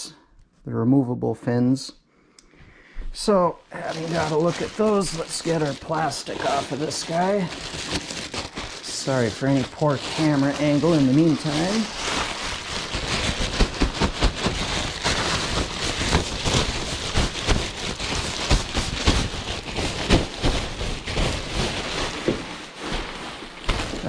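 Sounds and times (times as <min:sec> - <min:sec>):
plastic packaging crinkling: 0:03.7 - 0:24.0.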